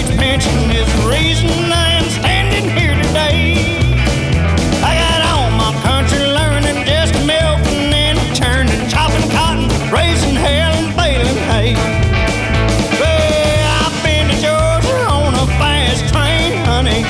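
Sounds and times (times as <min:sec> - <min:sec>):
country band playing: 0:00.0 - 0:17.0
sliding melodic lead line: 0:00.0 - 0:17.0.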